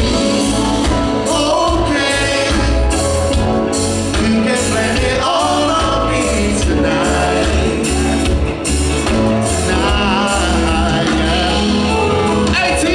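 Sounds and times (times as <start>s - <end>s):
live band playing: 0.0s - 12.9s
person singing: 0.0s - 12.9s.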